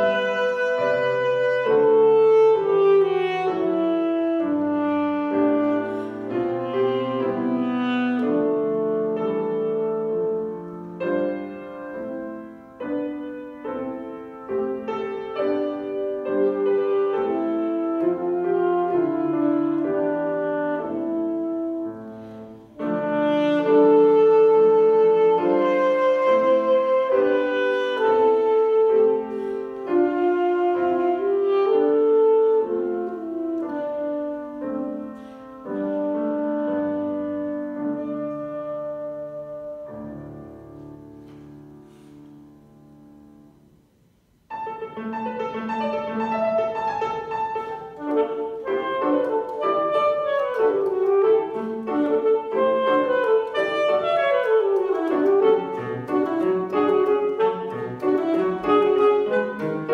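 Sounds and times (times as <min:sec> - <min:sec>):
saxophone: 0:00.0 - 0:42.6, 0:44.5 - 0:59.9
piano: 0:00.0 - 0:59.9.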